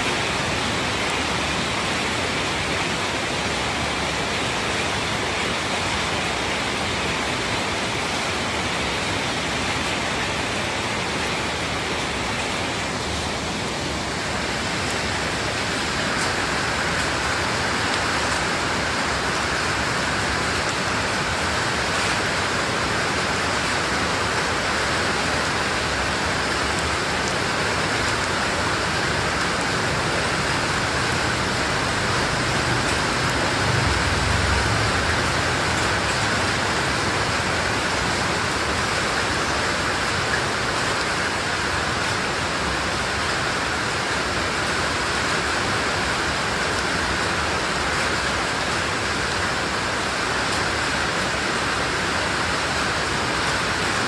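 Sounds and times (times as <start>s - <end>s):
rain on wet paving: 0.0s - 54.0s.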